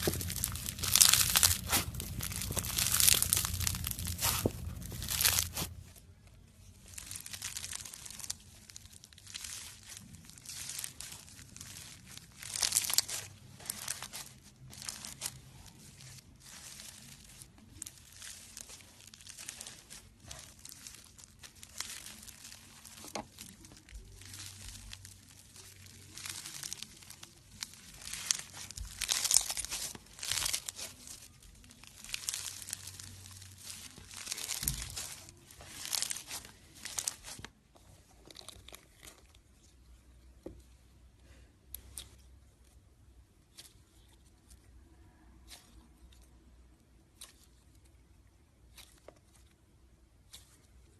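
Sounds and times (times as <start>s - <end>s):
slime squishing and crackling: 0.0s - 50.9s.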